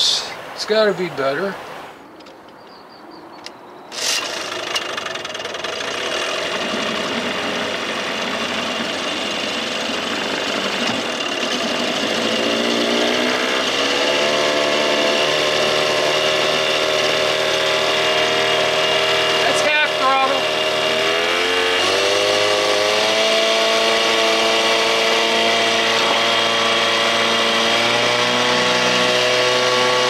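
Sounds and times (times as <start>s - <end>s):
outboard engine running: 3.9s - 30.0s.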